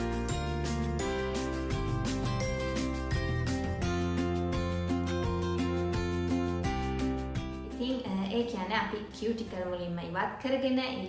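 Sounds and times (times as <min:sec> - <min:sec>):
instrumental music: 0:00.0 - 0:09.4.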